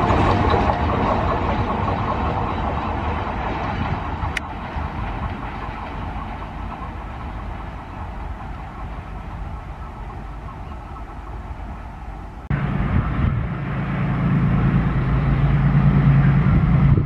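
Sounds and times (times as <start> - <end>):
freight train rumble and wheel clatter: 0.0 - 17.0.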